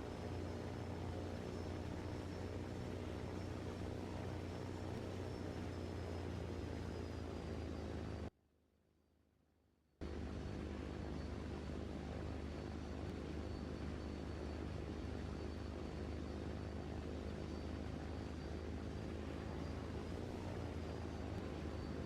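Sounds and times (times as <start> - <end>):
low mechanical drone: 0.0 - 8.3, 10.0 - 22.0.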